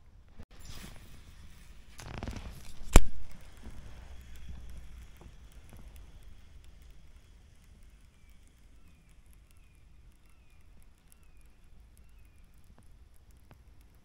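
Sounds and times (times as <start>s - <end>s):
low steady rumble: 0.0s - 14.0s
light clicks: 2.0s - 14.0s.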